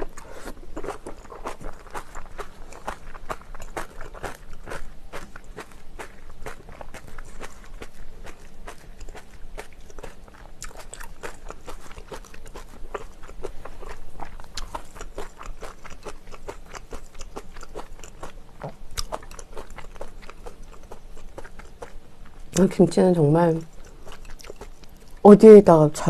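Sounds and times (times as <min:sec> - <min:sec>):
person chewing crunchy food: 0:00.0 - 0:22.7, 0:23.6 - 0:25.2.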